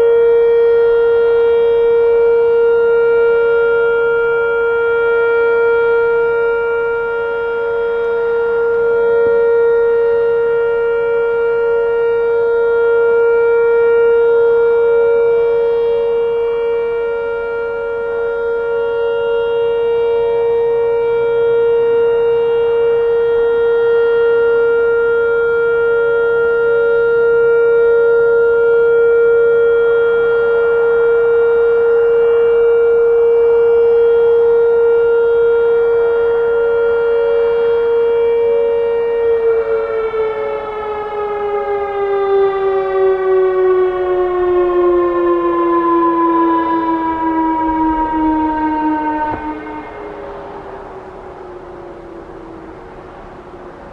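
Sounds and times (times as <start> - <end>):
outdoor warning siren steady tone: 0.0 - 53.9.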